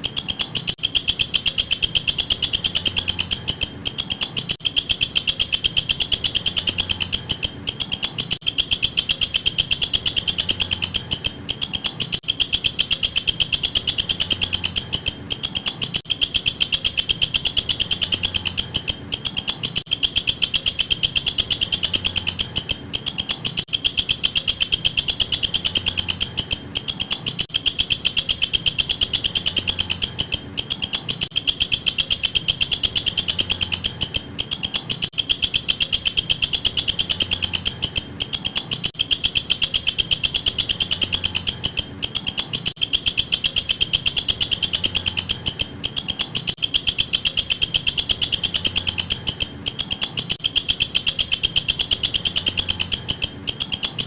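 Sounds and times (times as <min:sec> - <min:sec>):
insect high-pitched trill: 0:00.0 - 0:54.0.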